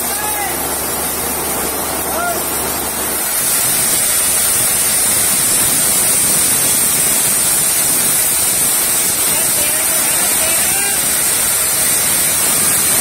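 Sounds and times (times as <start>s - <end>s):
dryer machine hissing: 0.0s - 13.0s.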